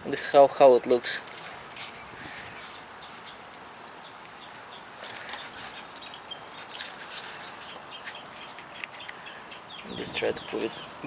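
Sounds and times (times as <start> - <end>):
small birds chirping: 1.8 - 11.0.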